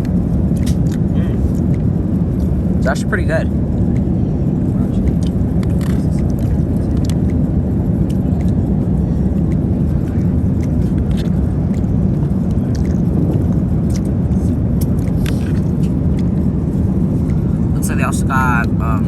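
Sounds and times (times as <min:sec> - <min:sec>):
airplane cabin noise: 0:00.0 - 0:19.0.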